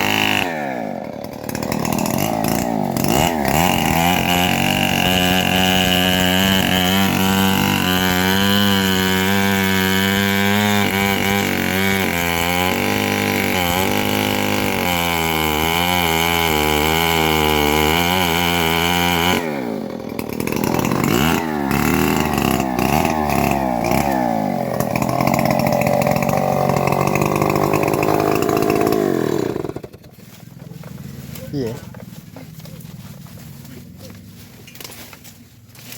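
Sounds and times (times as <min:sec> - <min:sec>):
engine-driven saw cutting log: 0:00.0 - 0:32.1.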